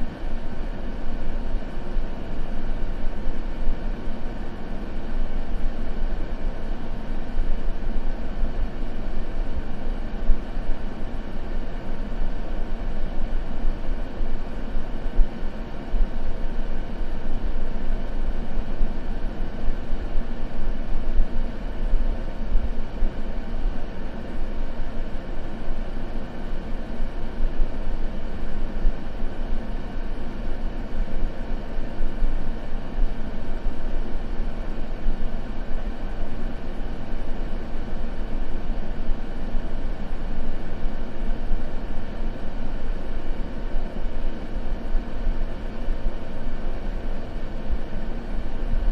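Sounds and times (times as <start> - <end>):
deep white noise: 0.0 - 48.9.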